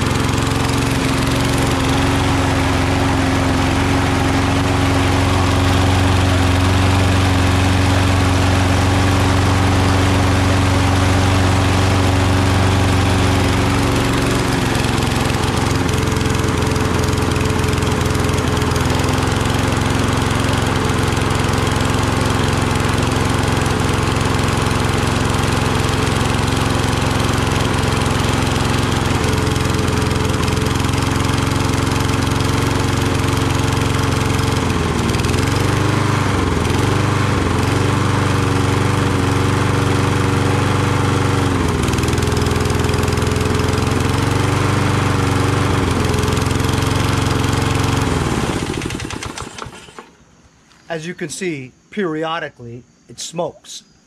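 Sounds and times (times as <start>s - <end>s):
lawn mower engine running: 0.0s - 52.5s.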